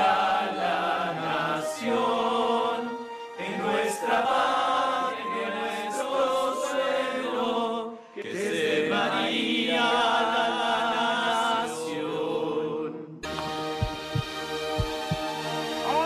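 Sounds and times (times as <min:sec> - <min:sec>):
men singing a hymn: 0:00.0 - 0:13.2.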